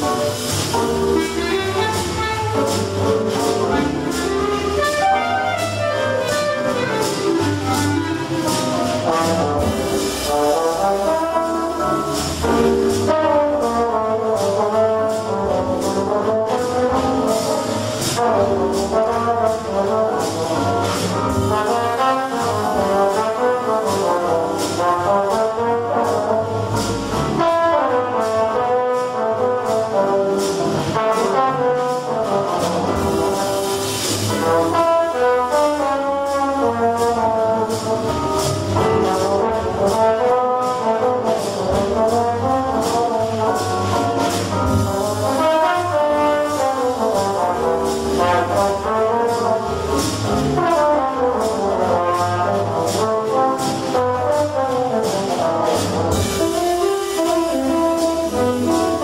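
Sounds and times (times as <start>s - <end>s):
brass section: 0.0s - 59.0s
jazz band playing: 0.0s - 59.0s.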